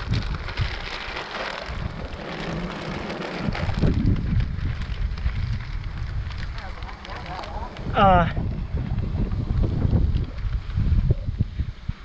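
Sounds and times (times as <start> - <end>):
plastic bag crinkling: 0.0 - 11.0
wind buffeting microphone: 0.0 - 12.0.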